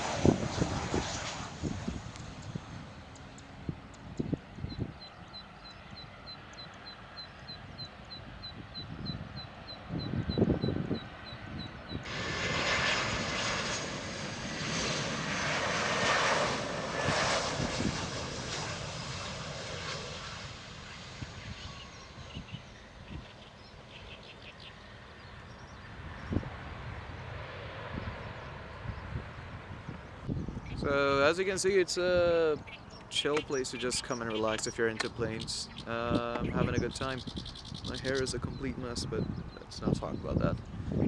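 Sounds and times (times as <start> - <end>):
high jet engine whine: 0.0 - 41.0
jet engines roaring: 0.0 - 41.0.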